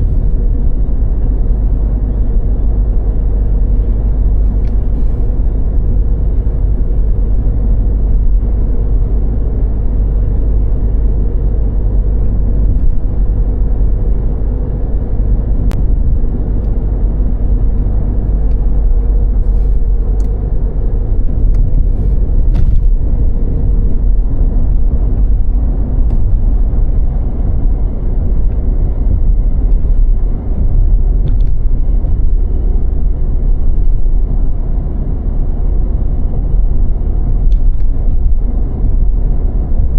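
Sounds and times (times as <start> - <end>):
car tyre and road rumble: 0.0 - 39.9.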